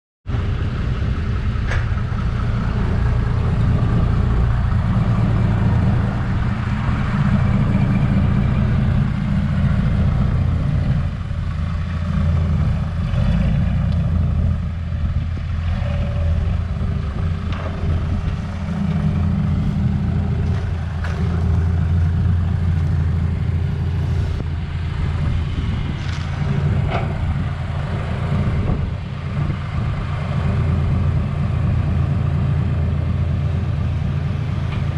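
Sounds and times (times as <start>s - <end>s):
heavy diesel engines rumbling: 0.3s - 34.9s.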